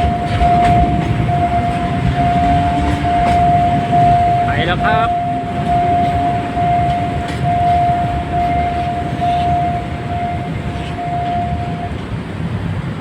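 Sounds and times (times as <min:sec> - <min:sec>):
steady high tone: 0:00.0 - 0:12.2
freight train rumbling: 0:00.0 - 0:13.0.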